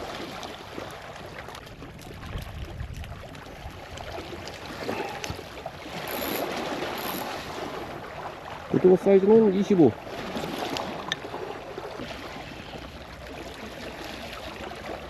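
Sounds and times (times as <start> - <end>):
seawater washing and splashing: 0.0 - 15.0.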